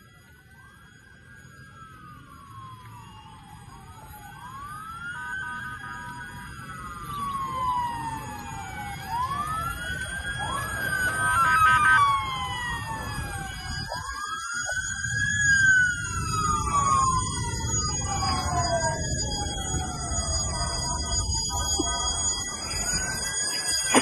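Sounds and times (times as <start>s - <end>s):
sirens wailing: 0.0s - 24.0s.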